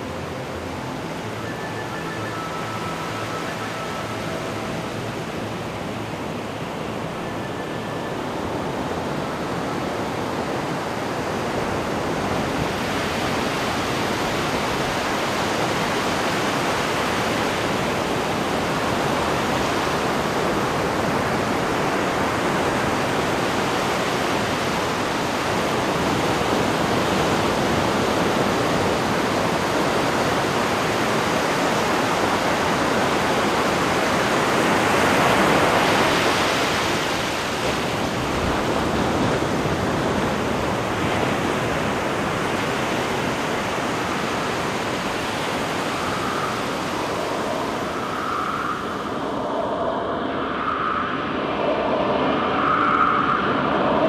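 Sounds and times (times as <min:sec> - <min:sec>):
ocean surf breaking on beach: 0:08.2 - 0:54.0.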